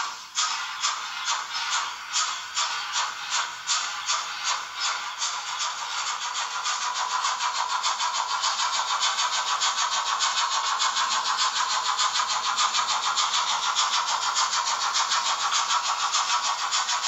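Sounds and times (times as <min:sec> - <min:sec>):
model train steam chuffs from speaker: 0:00.0 - 0:17.0.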